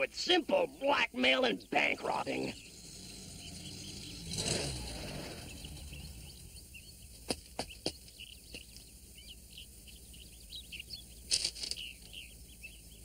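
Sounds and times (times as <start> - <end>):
bird chirps and tweets: 0.4 - 13.0.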